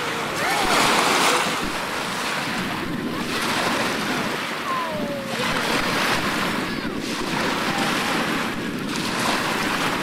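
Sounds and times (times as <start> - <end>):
waves washing on lake water: 0.0 - 10.0
wind buffeting the microphone: 0.0 - 10.0.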